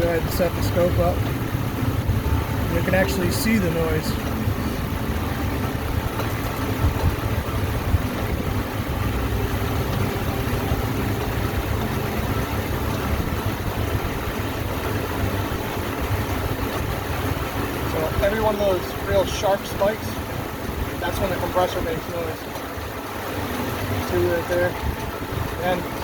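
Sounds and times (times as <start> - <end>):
compressor clunking: 0.0 - 26.0
truck engine idling: 0.0 - 26.0.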